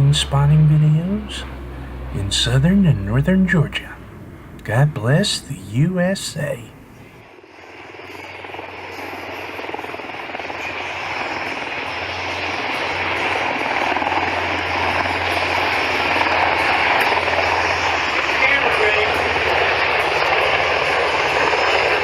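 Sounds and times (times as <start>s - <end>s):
constant low hum: 0.0s - 22.0s
military aircraft engine: 0.0s - 22.0s.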